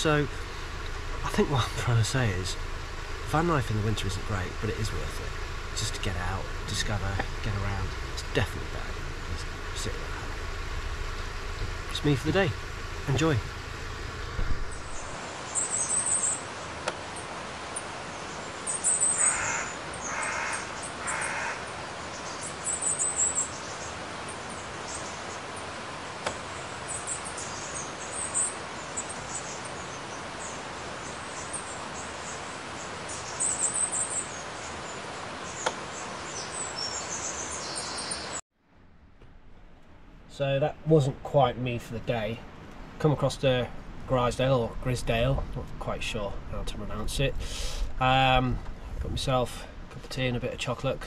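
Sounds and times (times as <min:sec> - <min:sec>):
harsh bird calls: 0:00.0 - 0:38.4, 0:46.2 - 0:49.5
small birds chirping: 0:00.0 - 0:38.4, 0:40.3 - 0:51.0.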